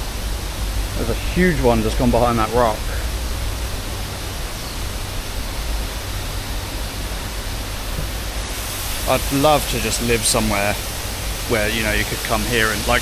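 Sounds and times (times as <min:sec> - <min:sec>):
water cascading into a pond: 0:00.0 - 0:13.0.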